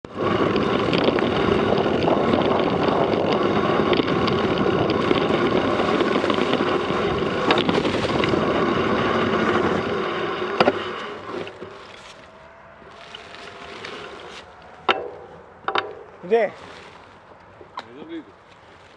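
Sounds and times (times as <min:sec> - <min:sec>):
wind rushing over microphone: 0:00.0 - 0:18.4
bike rattling over rough ground: 0:00.1 - 0:18.9.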